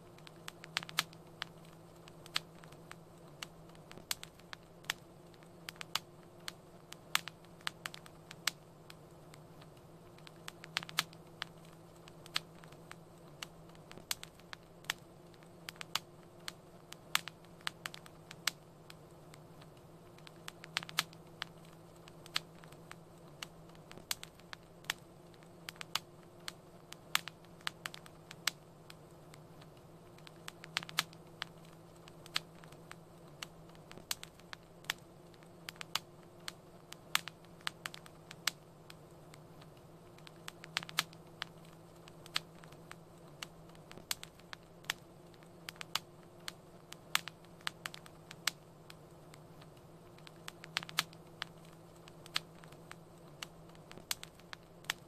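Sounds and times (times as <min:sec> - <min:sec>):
faint low hum and hiss: 0:00.0 - 0:55.0
wood fire crackling: 0:00.0 - 0:55.0.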